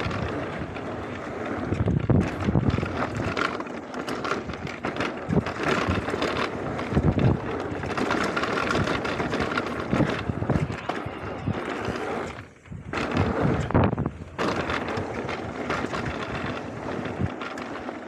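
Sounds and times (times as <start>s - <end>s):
bike rattling and knocking: 0.0s - 18.0s
wind buffeting microphone: 0.0s - 18.0s.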